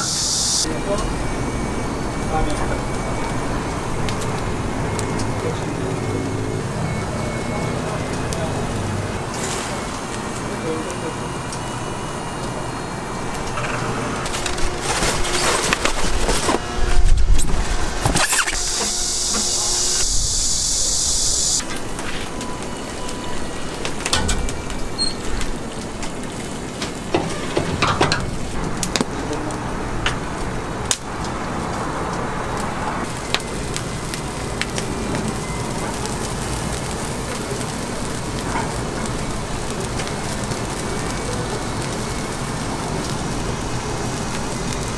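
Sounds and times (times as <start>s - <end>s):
charcoal fire crackling: 0.0s - 44.9s.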